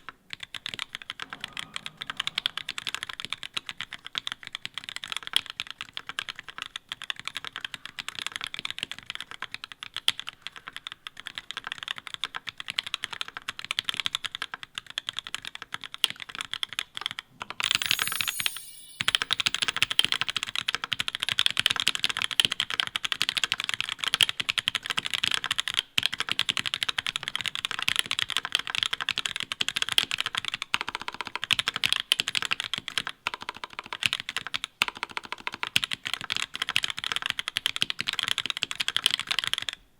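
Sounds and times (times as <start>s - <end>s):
fast typing on mechanical keyboard: 0.0s - 20.5s, 22.1s - 39.8s.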